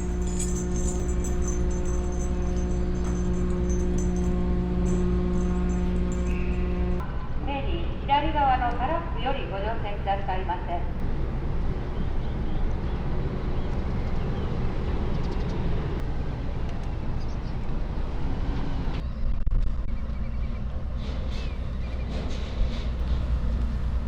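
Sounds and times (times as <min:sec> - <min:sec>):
diesel engines rumbling: 0:00.0 - 0:24.0.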